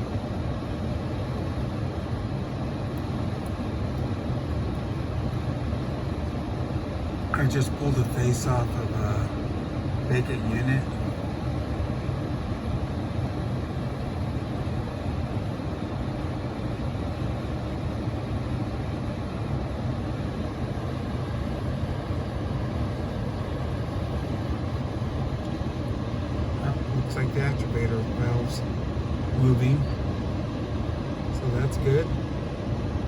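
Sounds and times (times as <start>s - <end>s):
air conditioning unit humming: 0.0s - 33.0s.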